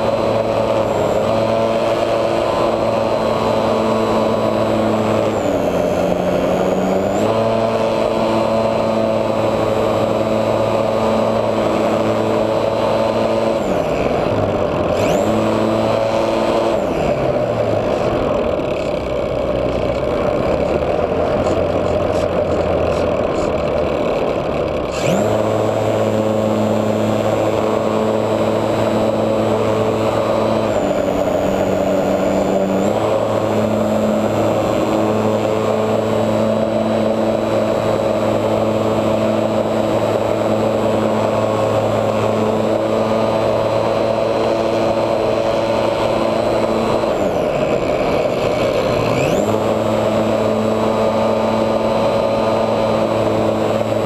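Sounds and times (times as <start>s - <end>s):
model plane motor whining: 0.0s - 54.0s.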